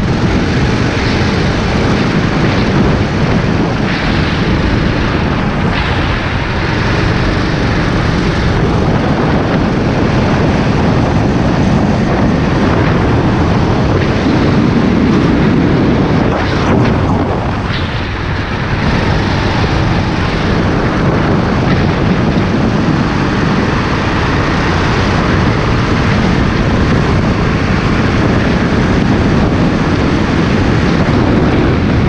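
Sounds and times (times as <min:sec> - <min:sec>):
go-kart engine racing: 0:00.0 - 0:32.0
wind buffeting microphone: 0:00.0 - 0:32.0.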